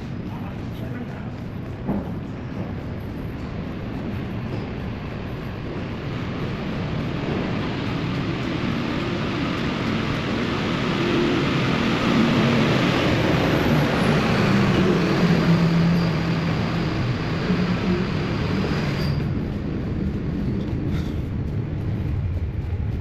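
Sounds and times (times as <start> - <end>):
loud rushing noise: 1.7 - 23.0.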